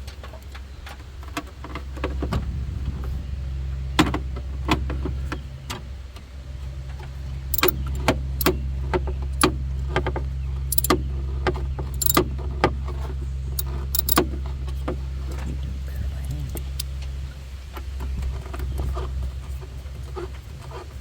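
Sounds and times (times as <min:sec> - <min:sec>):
steady low hum: 0:02.2 - 0:21.0.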